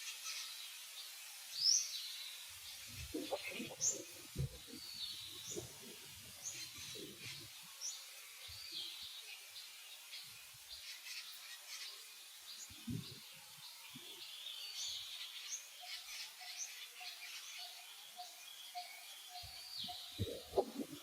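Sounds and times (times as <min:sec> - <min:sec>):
birds chirping: 0:02.6 - 0:21.0.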